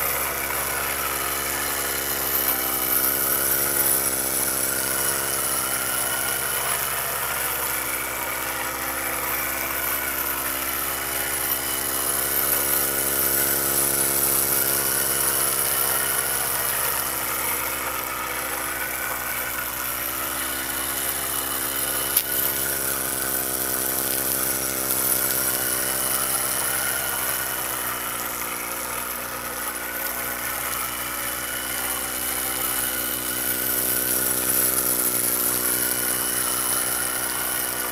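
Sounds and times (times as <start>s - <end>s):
toy steam engine humming: 0.0s - 37.9s.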